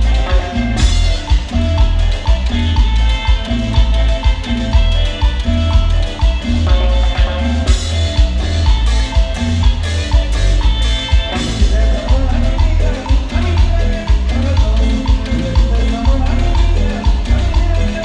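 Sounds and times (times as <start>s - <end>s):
keyboard melody: 0.0s - 18.0s
latin dance band playing: 0.0s - 18.0s.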